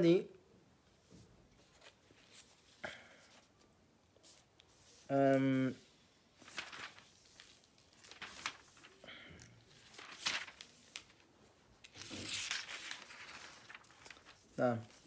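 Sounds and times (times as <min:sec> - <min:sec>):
paper pages rustling: 0:01.0 - 0:03.6, 0:04.2 - 0:05.5, 0:06.3 - 0:15.0.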